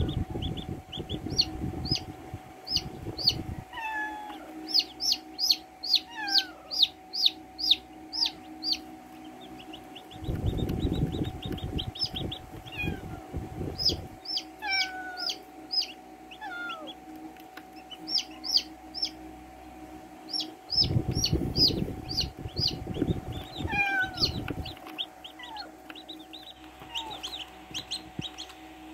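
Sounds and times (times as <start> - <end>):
baby chicks peeping: 0.0 - 28.9
faint steady hum: 0.0 - 28.9
low rough noise: 0.0 - 28.9.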